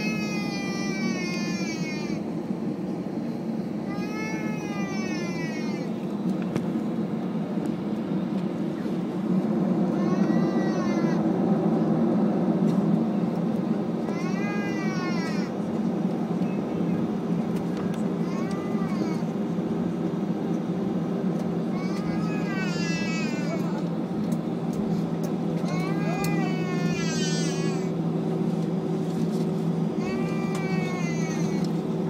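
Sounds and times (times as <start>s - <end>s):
airplane cabin drone: 0.0s - 32.0s.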